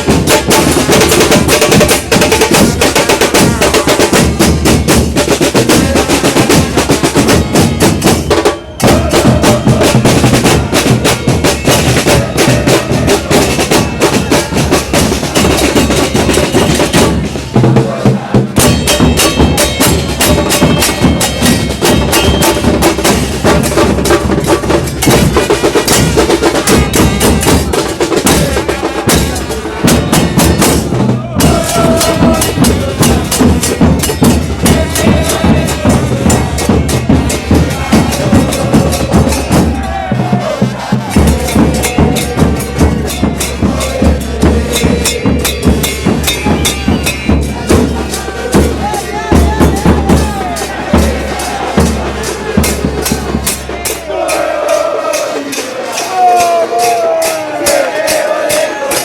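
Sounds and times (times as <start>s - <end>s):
percussion-driven drum music: 0.0s - 59.0s.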